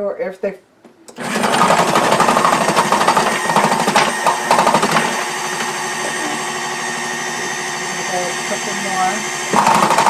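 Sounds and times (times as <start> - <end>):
food processor motor running: 1.1 - 10.0.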